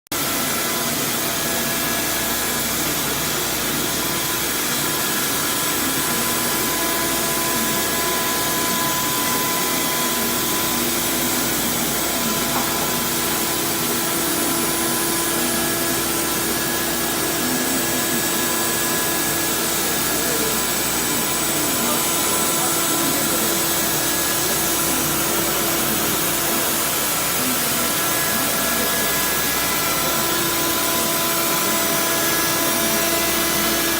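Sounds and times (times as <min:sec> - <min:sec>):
router spindle whine: 0:00.2 - 0:33.9.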